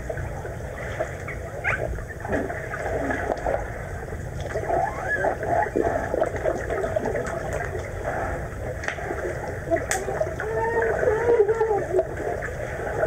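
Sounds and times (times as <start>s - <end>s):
muffled underwater rumble: 0.0s - 13.0s
underwater clicks and gurgles: 0.0s - 13.0s.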